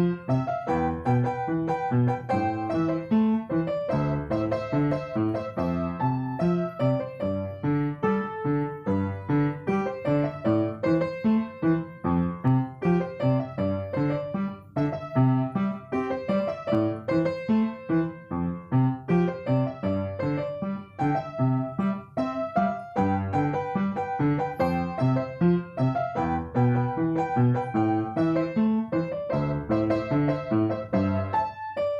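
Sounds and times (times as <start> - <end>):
piano playing: 0.0 - 31.9.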